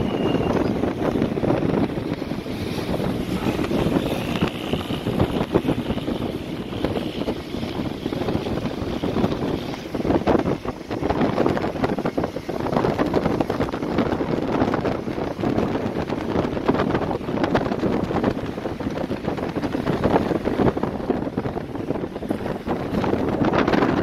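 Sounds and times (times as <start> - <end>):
car road noise: 0.0 - 24.0
wind buffeting microphone: 0.0 - 24.0.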